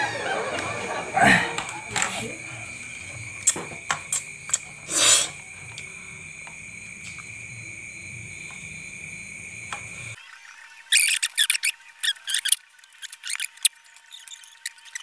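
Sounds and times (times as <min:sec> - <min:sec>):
high-pitched insect trill: 0:01.9 - 0:15.0.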